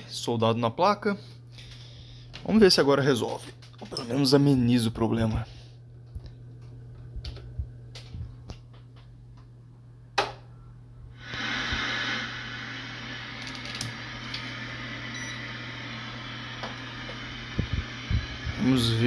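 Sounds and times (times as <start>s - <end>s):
low mains hum: 0.0s - 19.0s.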